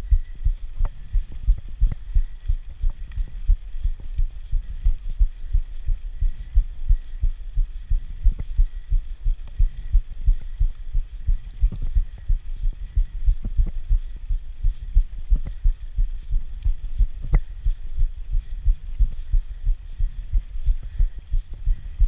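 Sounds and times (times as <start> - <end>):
bike low thumping rumble: 0.0 - 22.0.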